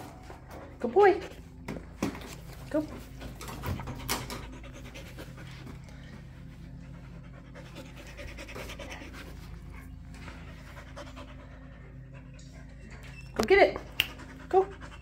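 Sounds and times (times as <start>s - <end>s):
dog panting: 2.8s - 15.0s.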